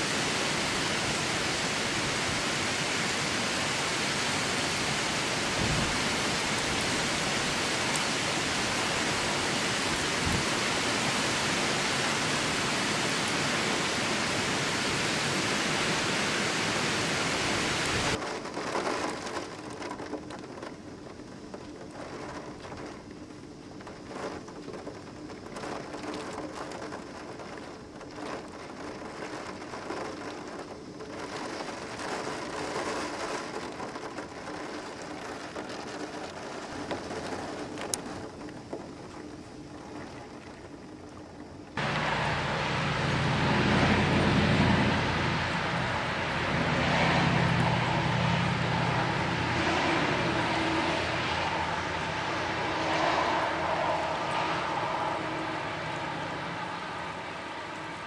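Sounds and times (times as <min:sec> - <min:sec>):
heavy rain and wind: 0:00.0 - 0:58.0.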